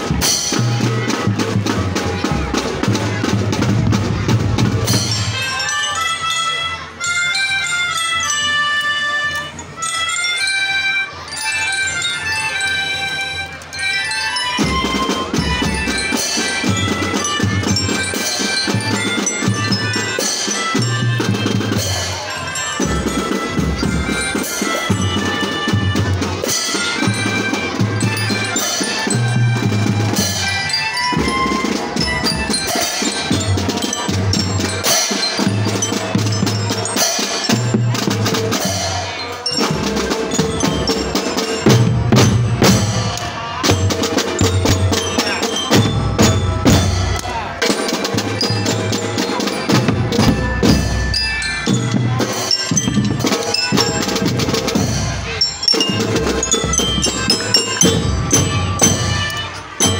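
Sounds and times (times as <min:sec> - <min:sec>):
melodicas playing melody: 0:00.0 - 0:59.9.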